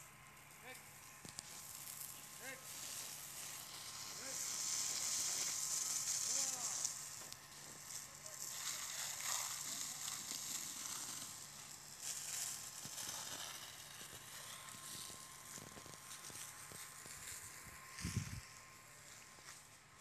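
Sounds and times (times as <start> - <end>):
smouldering ground hissing: 0.0 - 20.0.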